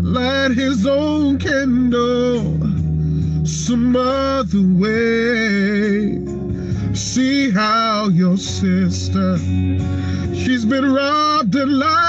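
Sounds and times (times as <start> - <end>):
man singing: 0.0 - 12.0
sustained low bass tone: 0.0 - 12.0.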